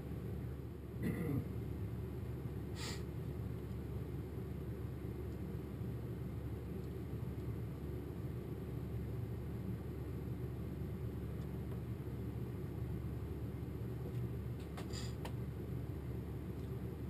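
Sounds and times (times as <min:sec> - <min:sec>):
low rumble of room noise: 0:00.0 - 0:17.0.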